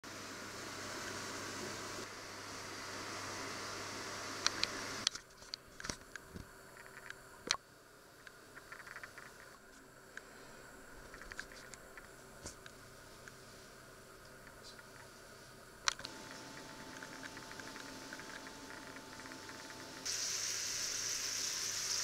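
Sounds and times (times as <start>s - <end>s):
room noise hiss: 0.0s - 22.0s.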